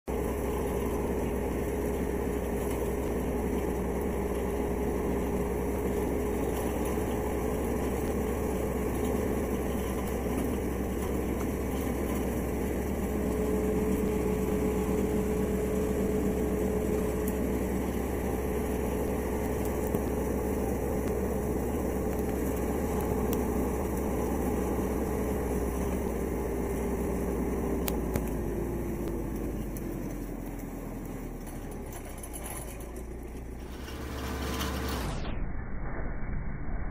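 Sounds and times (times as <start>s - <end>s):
tractor engine running: 0.0s - 35.3s
steady whine: 0.1s - 36.9s.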